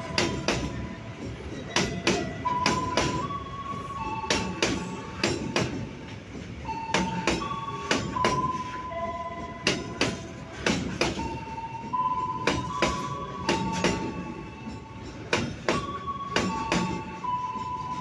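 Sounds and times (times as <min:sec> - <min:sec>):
train rumble: 0:00.0 - 0:18.0
train wheels clacking over rail joints: 0:00.0 - 0:18.0.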